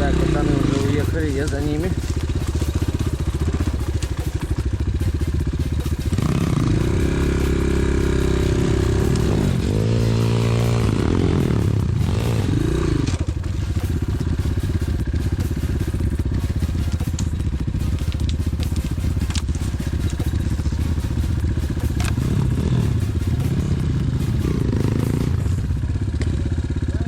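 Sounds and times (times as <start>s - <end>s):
pit bike engine under load: 0.0s - 27.0s.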